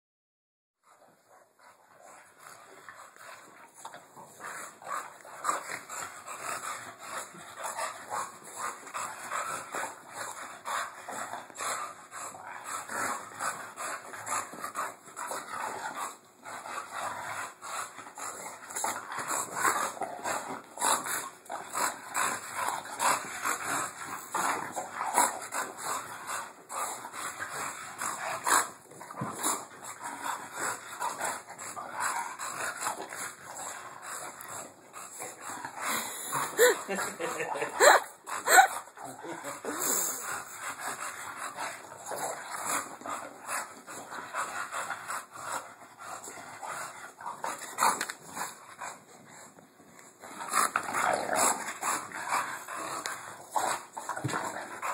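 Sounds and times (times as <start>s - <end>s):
dogs play-fighting vocal noises: 0.8s - 54.9s.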